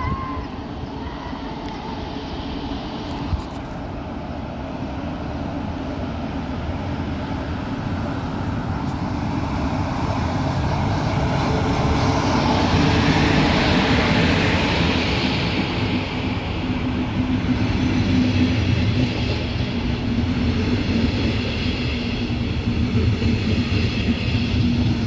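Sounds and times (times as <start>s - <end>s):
electric locomotive rumbling: 0.0s - 25.0s.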